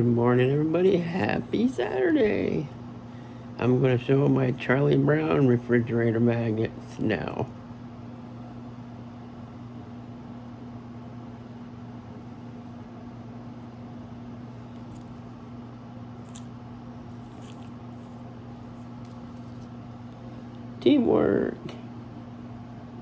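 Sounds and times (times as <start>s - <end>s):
refrigerator humming: 0.0s - 23.0s.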